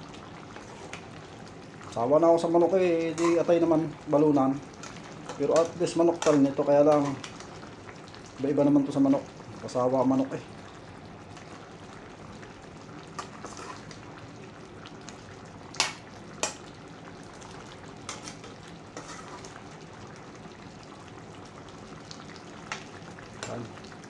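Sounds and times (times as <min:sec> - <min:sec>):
stew simmering: 0:00.0 - 0:24.0.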